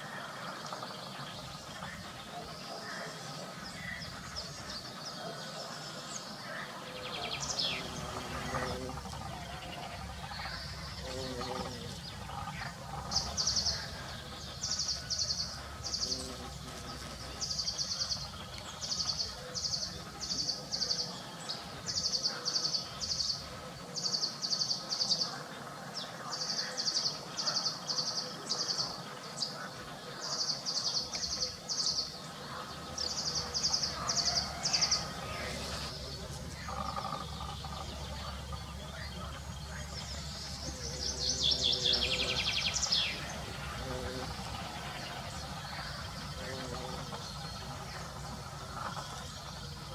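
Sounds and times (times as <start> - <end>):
low steady hum: 0.0 - 49.9
songbird singing trills: 0.0 - 49.9.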